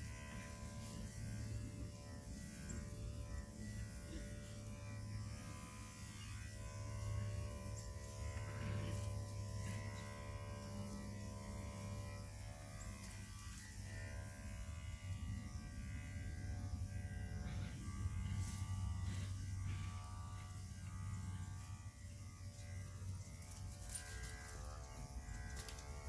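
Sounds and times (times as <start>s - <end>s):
electric grooming tool buzzing: 0.0s - 26.0s.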